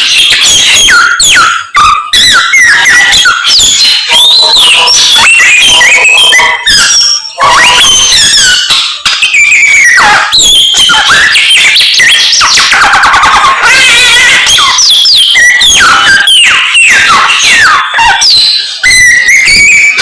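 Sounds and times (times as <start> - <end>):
songbird singing whistled phrases: 0.0 - 20.0.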